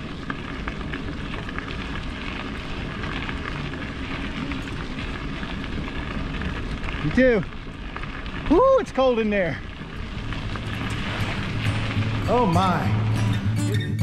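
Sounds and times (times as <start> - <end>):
bicycle tyres hissing on trail: 0.0 - 13.2.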